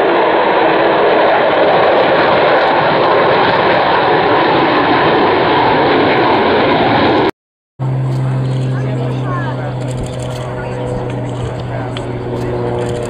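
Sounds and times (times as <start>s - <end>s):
loud jet noise: 0.0s - 13.0s.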